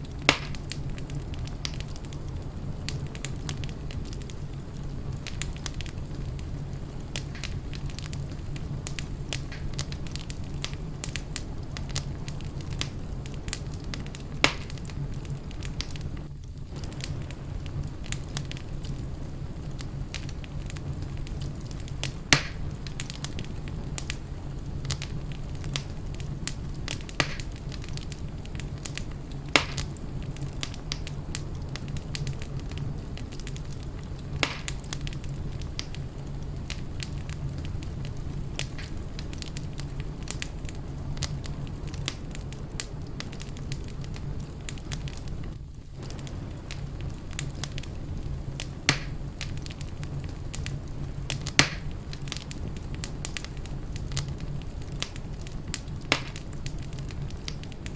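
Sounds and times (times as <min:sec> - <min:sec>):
sharp fire pops: 0:00.0 - 0:57.9
wood fire crackling: 0:00.0 - 0:57.9.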